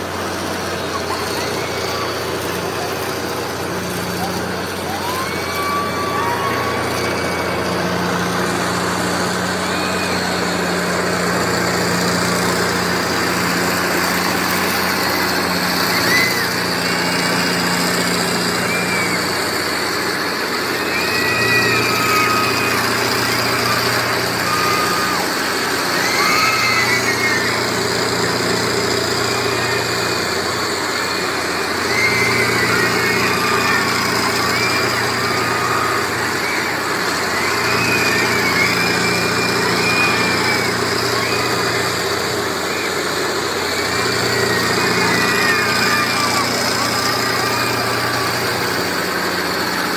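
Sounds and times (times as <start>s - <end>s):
faint high cries: 0.0s - 49.9s
fairground ride motor drone: 0.0s - 49.9s.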